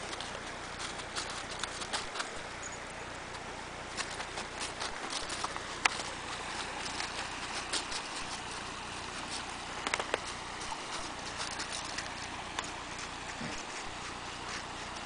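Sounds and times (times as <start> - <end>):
creek rushing: 0.0 - 15.0
footsteps crunching dry leaves: 0.0 - 15.0.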